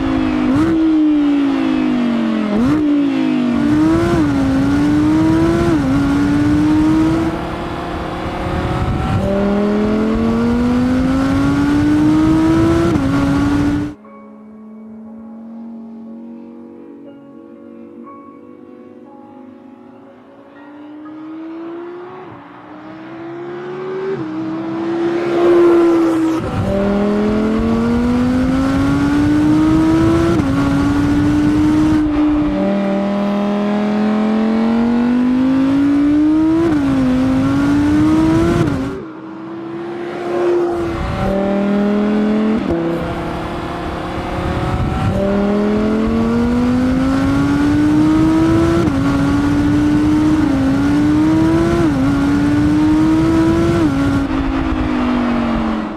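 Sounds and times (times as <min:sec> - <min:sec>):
car engine accelerating hard: 0:00.0 - 0:14.0, 0:20.8 - 0:55.9.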